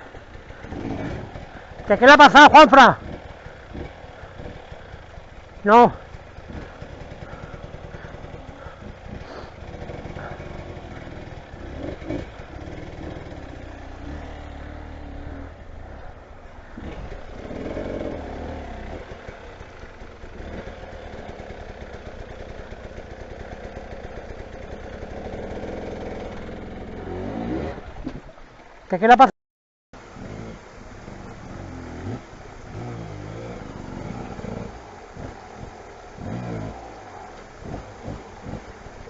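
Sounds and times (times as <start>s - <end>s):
motorcycle engine idling: 0.0s - 28.8s, 30.0s - 39.0s.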